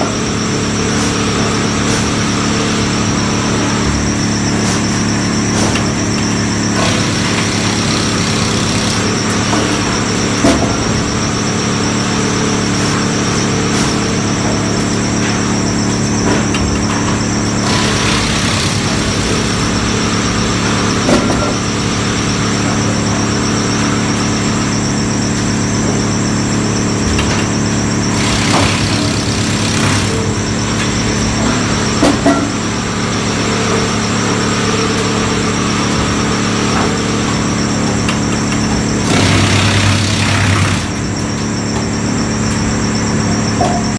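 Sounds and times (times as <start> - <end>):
milling machine running: 0.1 - 13.1, 14.8 - 22.4, 24.3 - 32.0, 35.3 - 42.5.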